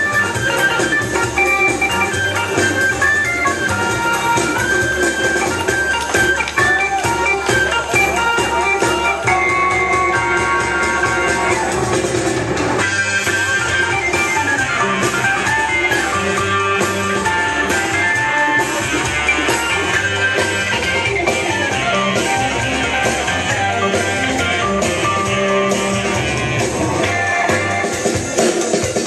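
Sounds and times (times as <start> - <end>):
loud guitar music with drum beat: 0.0 - 29.0.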